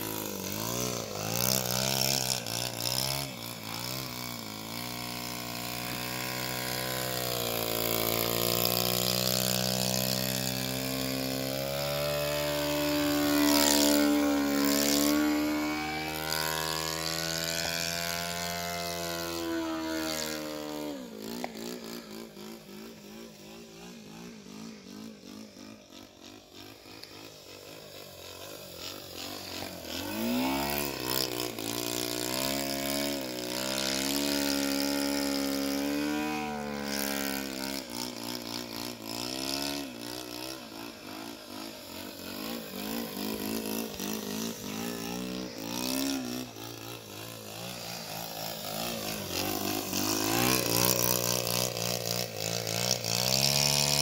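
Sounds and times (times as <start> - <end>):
model airplane engine: 0.0 - 54.0.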